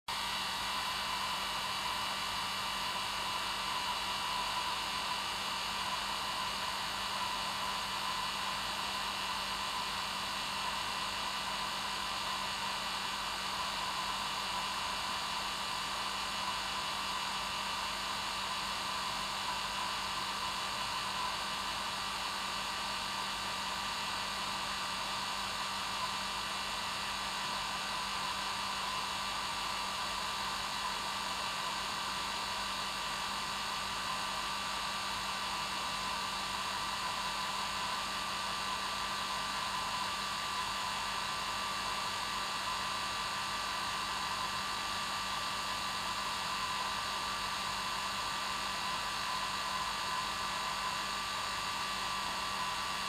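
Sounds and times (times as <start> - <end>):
hair dryer running: 0.1 - 53.0.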